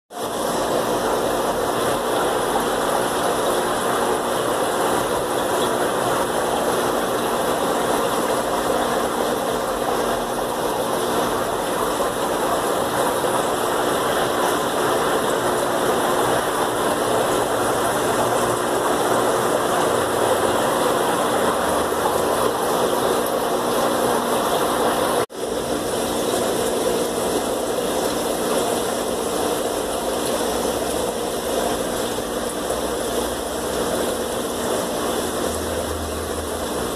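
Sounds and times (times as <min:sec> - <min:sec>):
aeration bubbling in tanks: 0:00.2 - 0:36.9
air pumps humming: 0:00.2 - 0:36.9.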